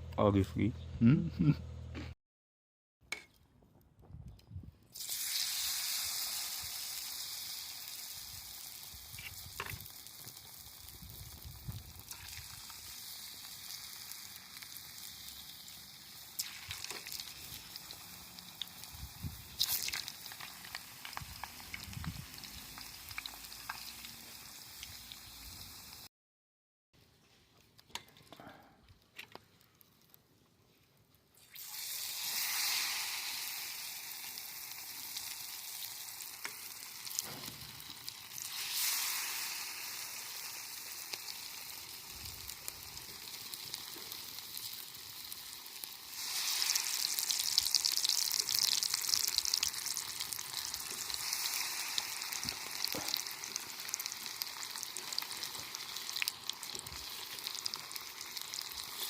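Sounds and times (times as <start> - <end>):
hot oil sizzling: 4.9 - 26.1, 31.4 - 59.0.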